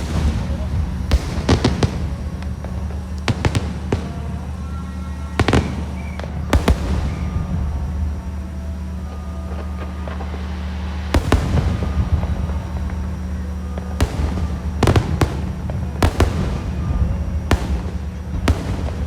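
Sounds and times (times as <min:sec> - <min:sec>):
fireworks bangs with crackling: 0:00.0 - 0:19.0
low rumble: 0:00.0 - 0:19.0.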